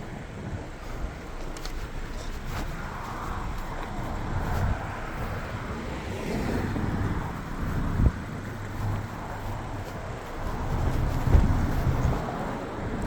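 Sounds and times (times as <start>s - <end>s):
road traffic: 0.0s - 13.0s
steady low hum: 0.0s - 13.0s
wind on microphone: 0.0s - 13.0s.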